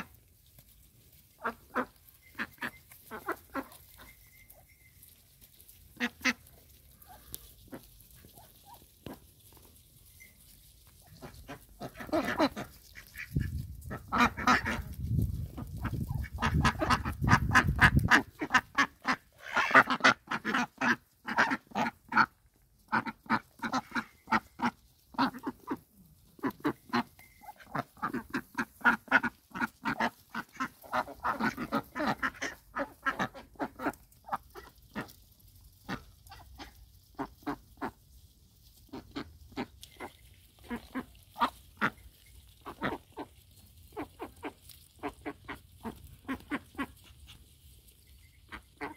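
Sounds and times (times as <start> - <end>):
ducks quacking: 1.3 - 4.1, 5.9 - 9.2, 11.0 - 35.2, 35.8 - 38.0, 38.8 - 47.5, 48.4 - 48.9.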